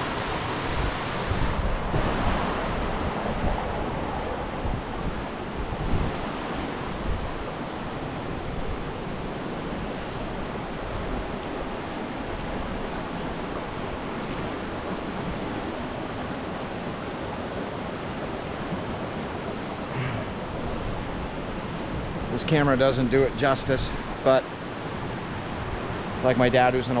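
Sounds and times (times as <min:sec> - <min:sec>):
brook rushing water: 0:00.0 - 0:27.0.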